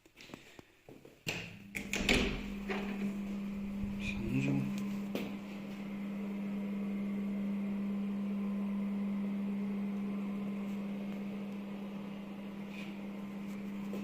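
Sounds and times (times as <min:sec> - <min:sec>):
steady low hum: 0:01.5 - 0:14.0.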